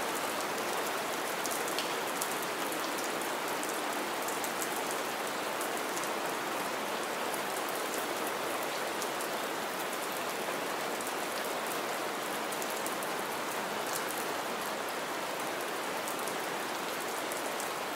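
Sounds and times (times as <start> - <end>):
steady rain hiss: 0.0 - 17.9.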